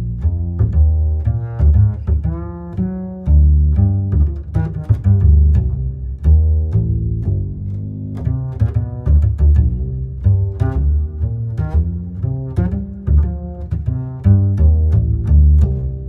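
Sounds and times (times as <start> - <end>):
background music with bass line: 0.0 - 16.0.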